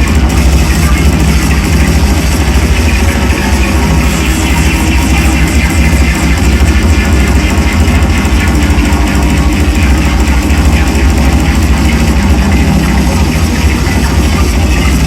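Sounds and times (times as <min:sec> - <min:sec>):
drone noise music: 0:00.0 - 0:15.0.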